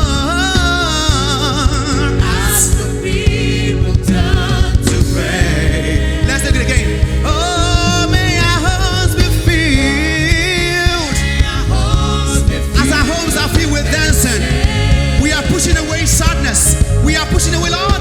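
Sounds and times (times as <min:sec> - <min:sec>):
bass line: 0:00.0 - 0:18.0
drum beat: 0:00.0 - 0:18.0
voices singing with vibrato: 0:00.0 - 0:18.0.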